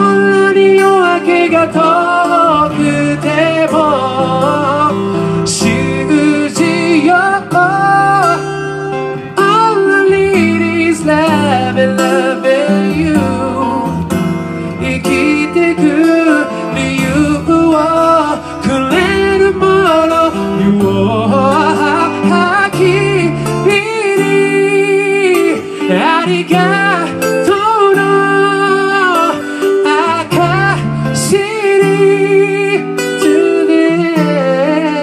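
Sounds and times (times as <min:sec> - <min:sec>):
guitar accompaniment: 0:00.0 - 0:35.0
person singing into a microphone: 0:00.0 - 0:35.0.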